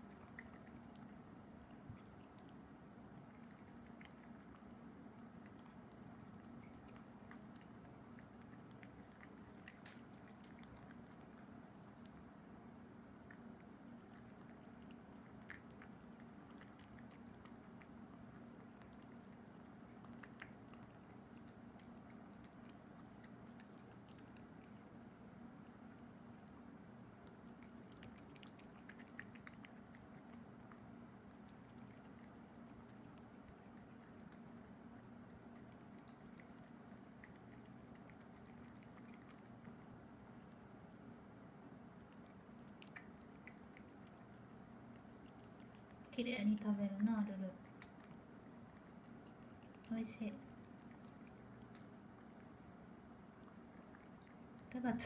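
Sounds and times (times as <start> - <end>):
kitten chewing and licking: 0.0 - 55.0
steady low hum: 0.0 - 55.0.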